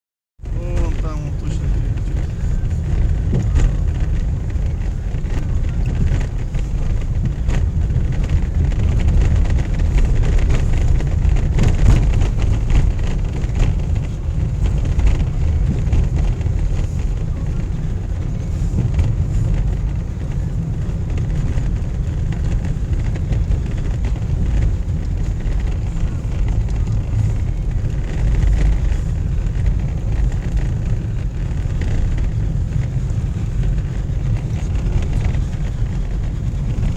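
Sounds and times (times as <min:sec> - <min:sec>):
car engine and road rumble: 0:00.4 - 0:36.9.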